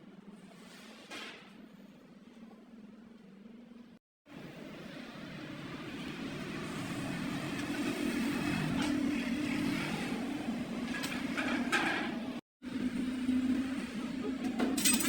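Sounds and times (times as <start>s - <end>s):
workshop machinery humming: 1.6s - 15.0s.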